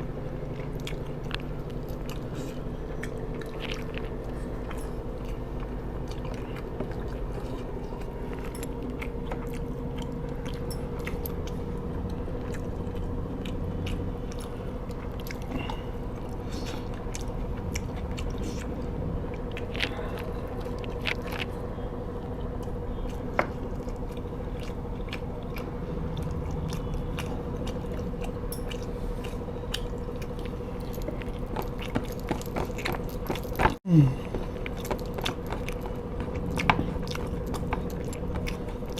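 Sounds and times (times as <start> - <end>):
person chewing food: 0.0 - 38.9
steady low hum: 0.0 - 38.9.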